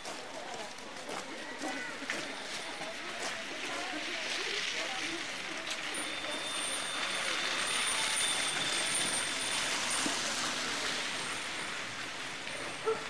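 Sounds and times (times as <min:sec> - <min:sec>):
traffic hiss on snowy street: 0:00.0 - 0:13.0.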